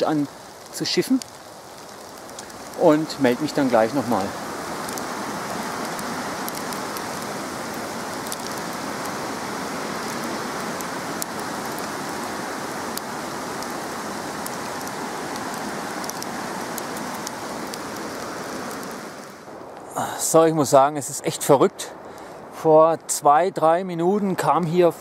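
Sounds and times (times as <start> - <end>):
hail striking: 0.0 - 22.4
heavy rain: 0.0 - 25.0.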